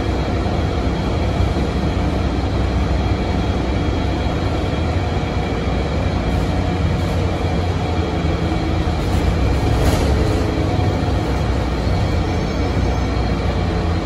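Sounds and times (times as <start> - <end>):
bus diesel engine droning: 0.0 - 14.0
road noise: 0.0 - 14.0.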